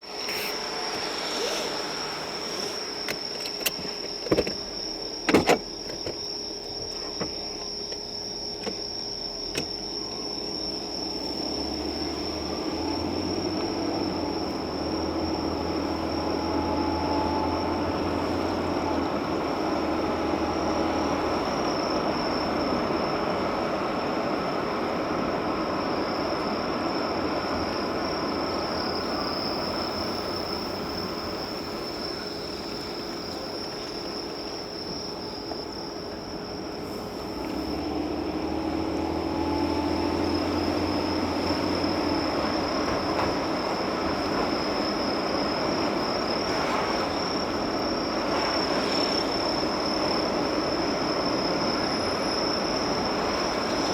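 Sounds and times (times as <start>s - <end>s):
car engine and road noise: 0.0s - 53.9s
steady high-pitched whine: 0.0s - 53.9s.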